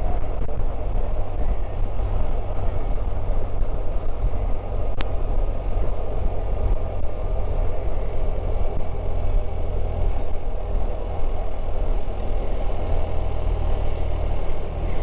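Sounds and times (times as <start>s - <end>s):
motorcycle engine rumble: 0.0s - 15.0s
road noise: 0.0s - 15.0s
wind noise: 0.0s - 15.0s.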